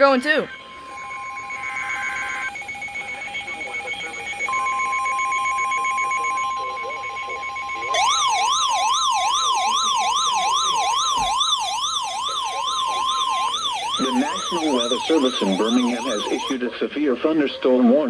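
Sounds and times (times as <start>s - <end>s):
steady alarm tone: 0.0s - 16.6s
wailing siren-like tone: 0.0s - 16.6s.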